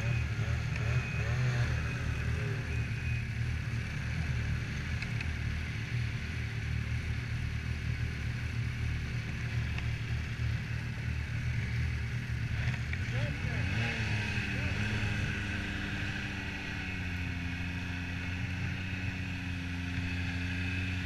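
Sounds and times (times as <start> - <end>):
snowmobile engine idling: 0.0 - 21.0.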